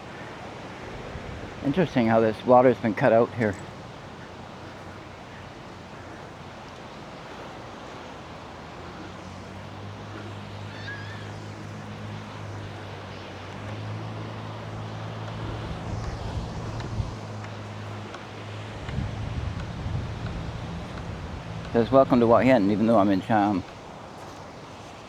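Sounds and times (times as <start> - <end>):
low engine drone: 0.0 - 24.1
wind: 0.0 - 25.0
wind buffeting microphone: 0.0 - 25.0.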